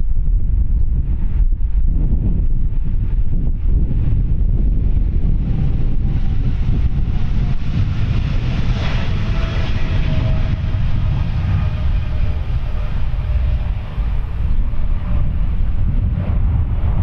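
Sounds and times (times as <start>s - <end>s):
faint jet engine whine: 0.0s - 17.0s
jet engines rumbling: 0.0s - 17.0s.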